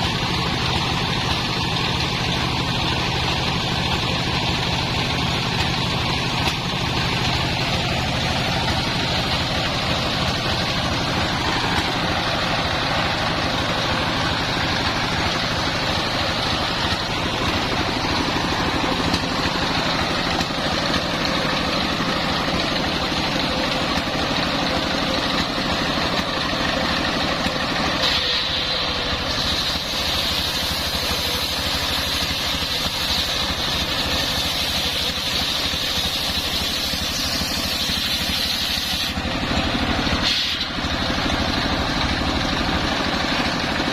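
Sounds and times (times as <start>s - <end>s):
circular sawmill running: 0.0s - 43.9s.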